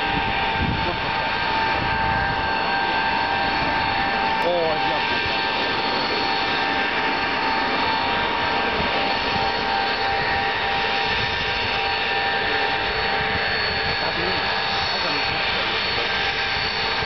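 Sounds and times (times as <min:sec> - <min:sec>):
jet engines whining: 0:00.0 - 0:17.0.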